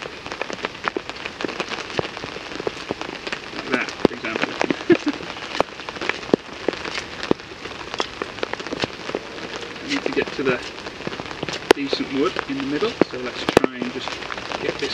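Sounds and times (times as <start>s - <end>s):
heavy rain on a tarp: 0.0s - 14.9s.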